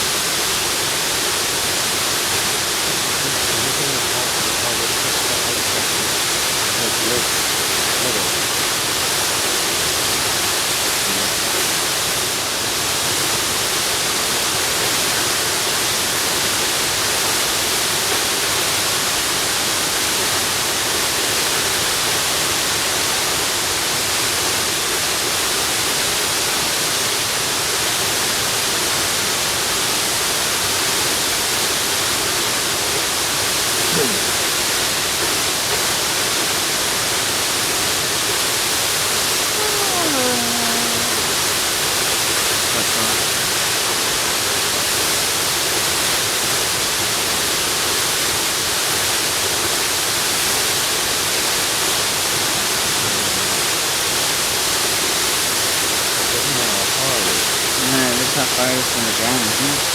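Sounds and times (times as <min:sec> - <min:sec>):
waterfall rushing: 0:00.0 - 0:27.7, 0:31.8 - 0:59.9.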